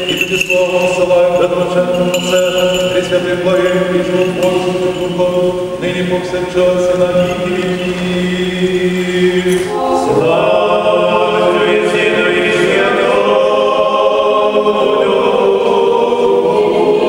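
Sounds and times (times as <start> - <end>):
voices chanting together: 0.0 - 17.0.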